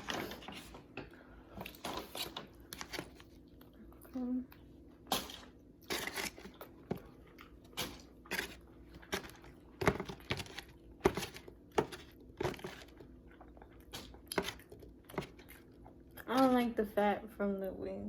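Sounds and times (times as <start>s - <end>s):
chewing and biting food: 1.6s - 16.2s.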